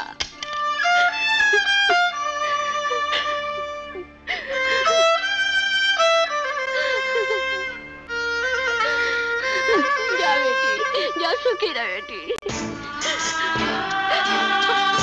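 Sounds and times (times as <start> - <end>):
violin melody of long notes: 0.4 - 15.0.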